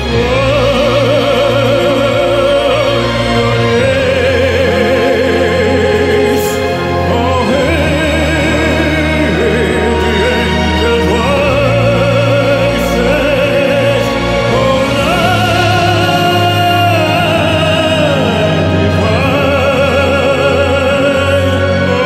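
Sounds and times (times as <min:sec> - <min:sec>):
operatic tenor singing: 0:00.0 - 0:22.0
orchestral accompaniment: 0:00.0 - 0:22.0.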